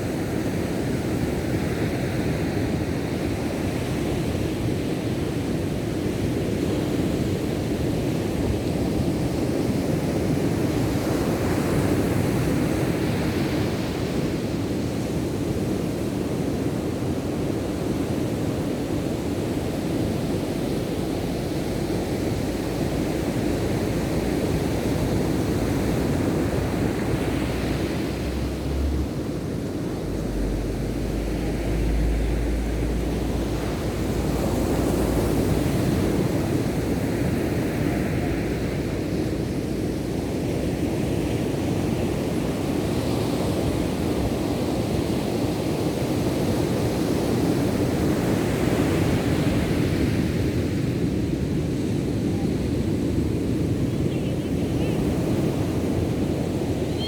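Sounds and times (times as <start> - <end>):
ocean surf washing onto beach: 0.0 - 57.0
wind rumble on microphone: 0.0 - 57.0.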